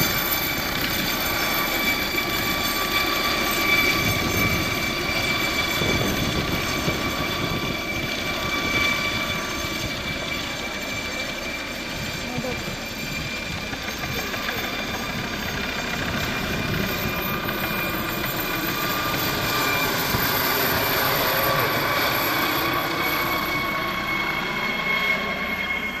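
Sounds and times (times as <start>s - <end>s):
helicopter rotor and engine: 0.0s - 26.0s.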